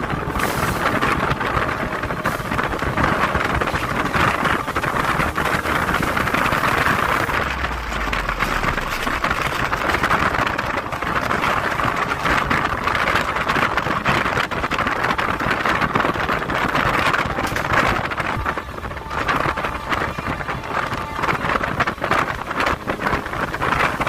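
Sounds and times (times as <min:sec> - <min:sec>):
train wheels rushing on track: 0:00.0 - 0:24.0.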